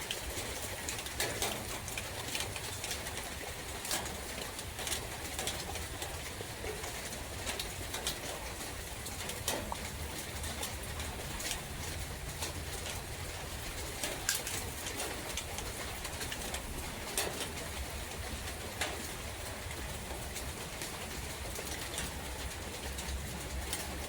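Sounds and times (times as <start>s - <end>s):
raindrops dripping: 0.0s - 24.0s.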